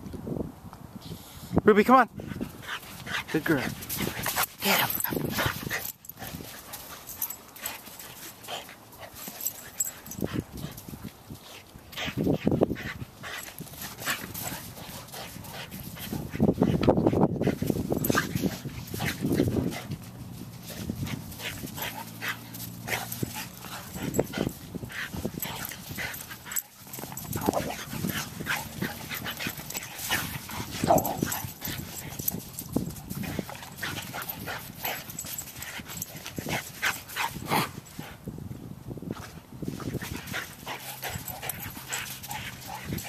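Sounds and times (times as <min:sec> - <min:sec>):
dogs vocalizing while playing: 0:02.2 - 0:38.3, 0:39.7 - 0:43.0.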